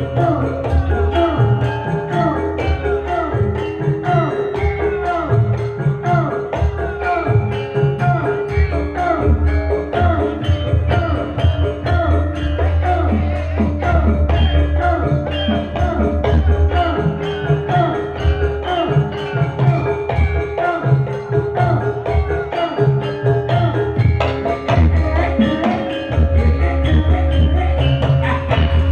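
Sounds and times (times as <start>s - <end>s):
low bass: 0.0s - 22.5s, 23.2s - 28.9s
metallophone notes: 0.0s - 28.9s
rattling percussion: 0.0s - 28.9s.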